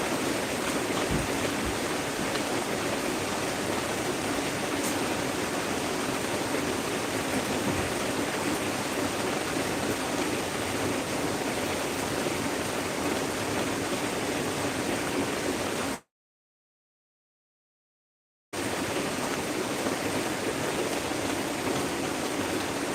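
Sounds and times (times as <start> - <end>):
heavy rain falling: 0.0 - 16.0, 18.6 - 22.9.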